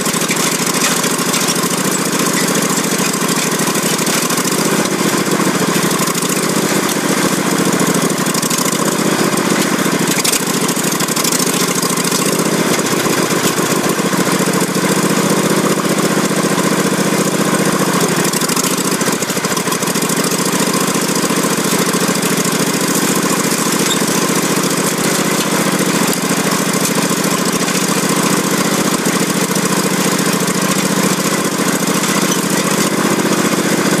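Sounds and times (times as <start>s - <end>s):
lawn tractor engine running: 0.0s - 34.0s.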